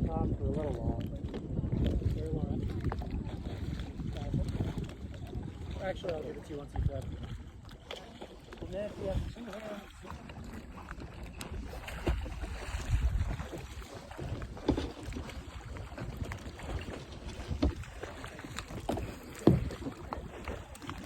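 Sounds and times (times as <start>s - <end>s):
water sloshing and splashing: 0.0s - 21.0s
wind buffeting microphone: 0.0s - 21.0s.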